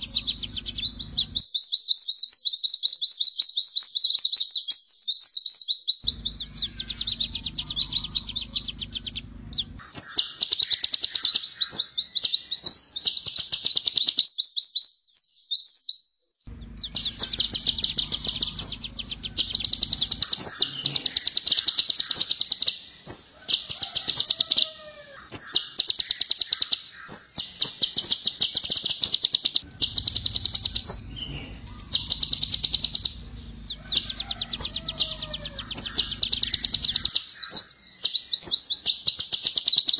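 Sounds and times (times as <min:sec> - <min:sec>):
bird singing fast high trills: 0:00.0 - 0:02.3, 0:06.0 - 0:14.6, 0:16.4 - 0:39.9.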